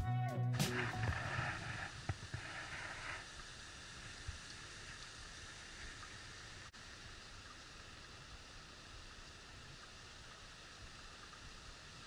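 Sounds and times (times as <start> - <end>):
water rushing under snow: 0.7 - 12.0.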